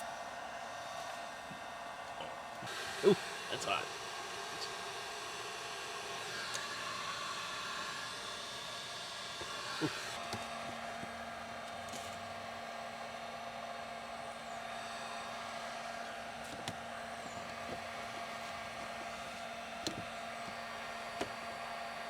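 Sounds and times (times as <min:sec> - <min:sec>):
heat gun blowing: 0:00.0 - 0:22.0.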